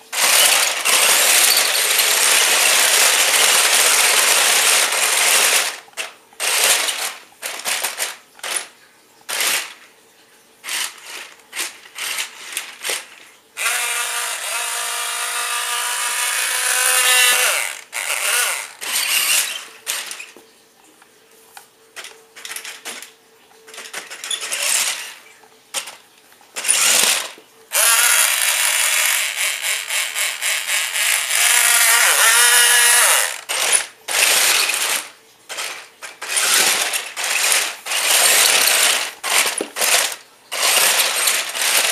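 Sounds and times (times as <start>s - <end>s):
toy car electric motor whirring: 0.0s - 8.7s, 9.3s - 9.8s, 10.6s - 20.4s, 23.7s - 26.0s, 26.6s - 41.9s.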